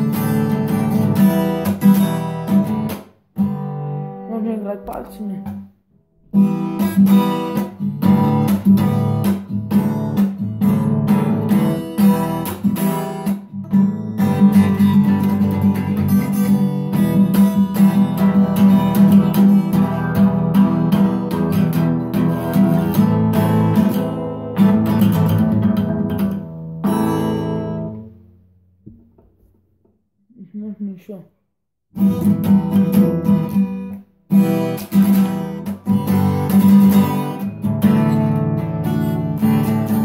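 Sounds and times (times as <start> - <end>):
fingerstyle acoustic guitar: 0.0 - 29.6, 31.9 - 40.0.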